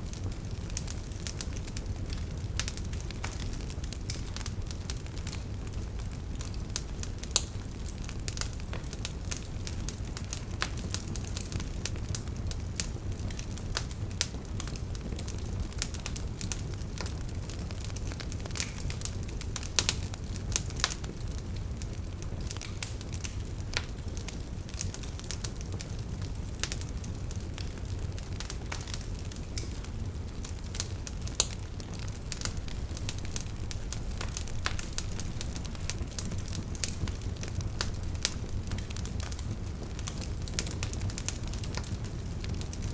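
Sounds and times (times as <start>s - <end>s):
firewood crackling and popping: 0.0s - 42.9s
low rumble of flames: 0.0s - 42.9s.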